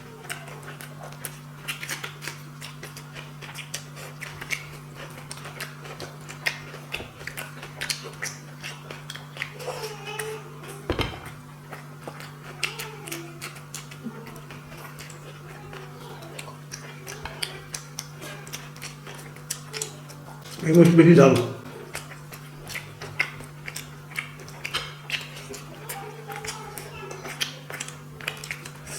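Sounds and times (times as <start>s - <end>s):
chewing and mouth clicks: 0.0s - 28.9s
steady low hum: 0.0s - 28.9s.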